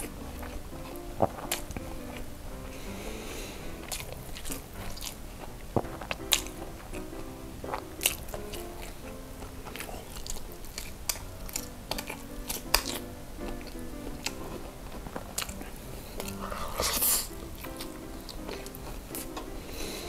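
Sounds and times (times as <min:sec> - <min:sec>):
chewing with wet mouth clicks: 0:00.0 - 0:02.8, 0:03.7 - 0:19.5
soft background music: 0:00.0 - 0:20.0.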